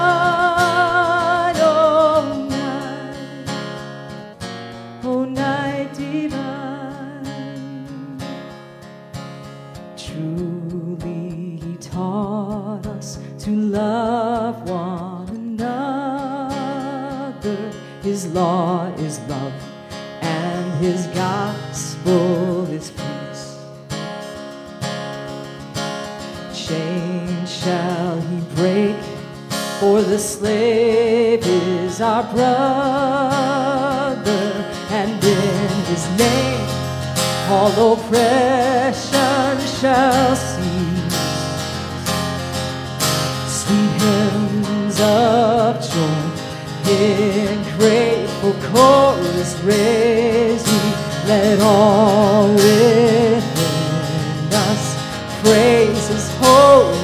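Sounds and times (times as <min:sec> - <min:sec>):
woman singing with vibrato: 0:00.0 - 0:03.8, 0:05.0 - 0:08.5, 0:10.0 - 0:23.7, 0:26.5 - 0:41.2, 0:43.4 - 0:57.0
strummed acoustic guitar: 0:00.0 - 0:57.0.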